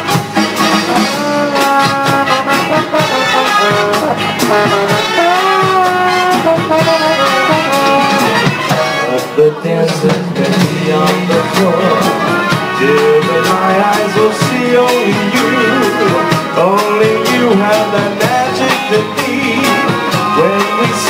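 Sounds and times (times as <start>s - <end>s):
drum beat: 0.0s - 21.0s
trombone melody: 0.0s - 21.0s.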